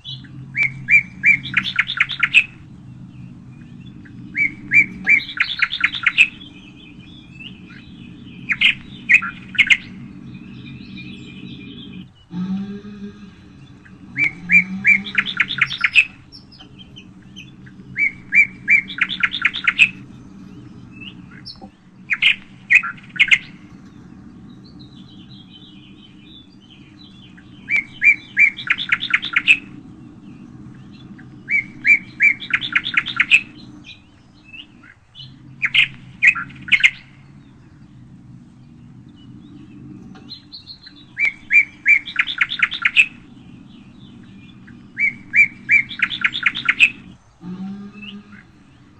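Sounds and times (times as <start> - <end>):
songbird singing trill: 0.0 - 48.9
steady low hum: 0.0 - 48.9.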